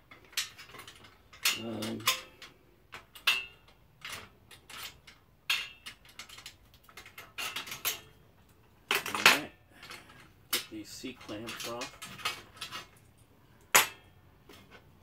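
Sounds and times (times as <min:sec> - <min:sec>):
metal tools clinking: 0:00.1 - 0:08.2, 0:08.9 - 0:13.1.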